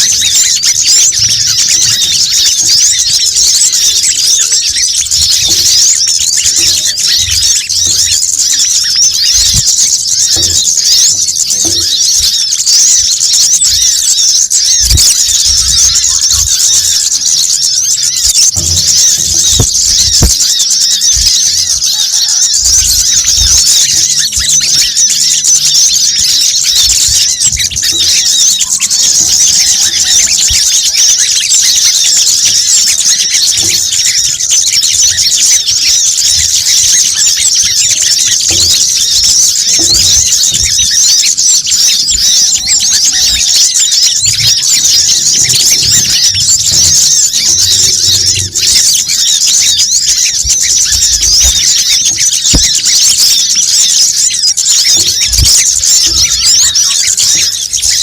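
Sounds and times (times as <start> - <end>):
small birds chattering and chirping: 0.0 - 58.0.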